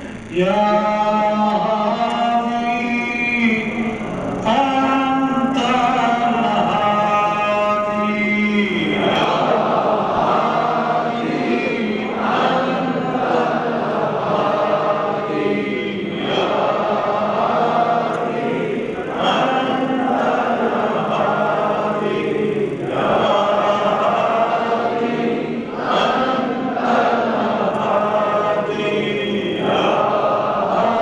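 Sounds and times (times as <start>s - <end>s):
crowd of men chanting: 4.5s - 31.0s.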